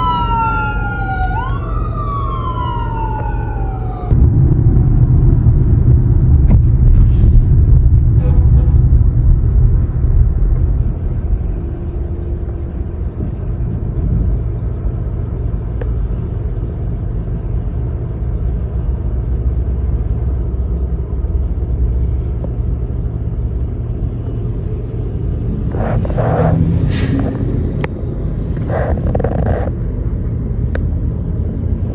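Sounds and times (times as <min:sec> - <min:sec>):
heavy engine: 0:00.0 - 0:31.9
traffic drone: 0:00.0 - 0:31.9.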